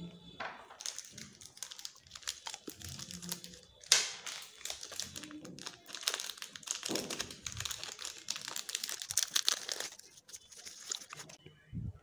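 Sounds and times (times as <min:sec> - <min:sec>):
candy wrappers crinkling: 0:00.6 - 0:11.4.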